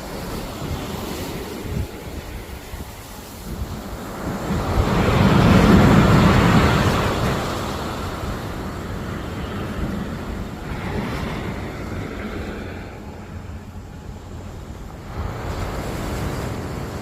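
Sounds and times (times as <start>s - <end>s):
sea wave breaking on shore: 0.0s - 17.0s.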